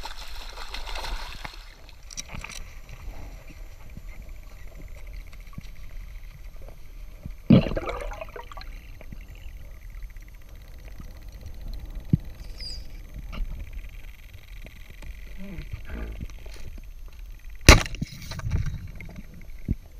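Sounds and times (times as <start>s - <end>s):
underwater low rumble: 0.0s - 19.9s.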